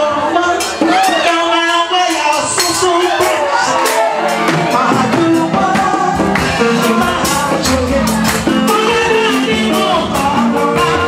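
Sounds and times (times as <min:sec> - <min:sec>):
band with driving beat: 0:00.0 - 0:11.0.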